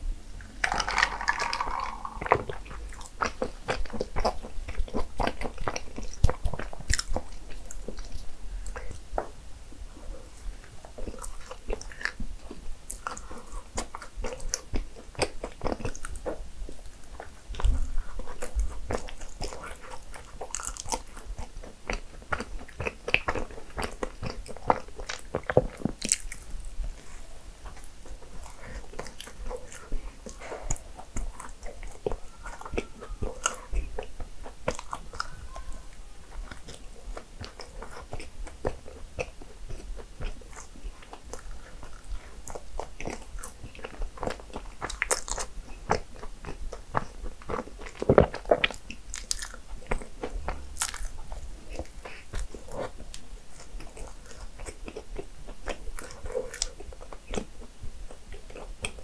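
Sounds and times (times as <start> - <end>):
person chewing pastry: 0.3 - 9.2, 10.0 - 59.0.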